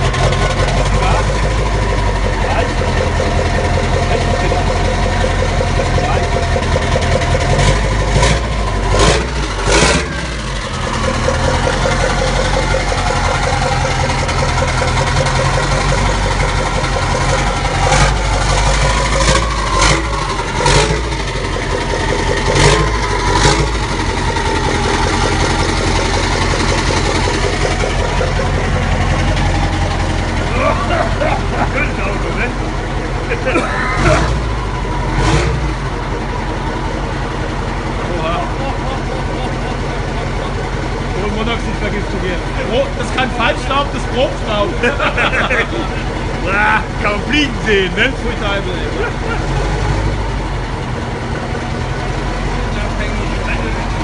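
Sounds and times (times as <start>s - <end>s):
diesel engine idling: 0.0s - 54.0s
engine throttle blips: 0.0s - 54.0s.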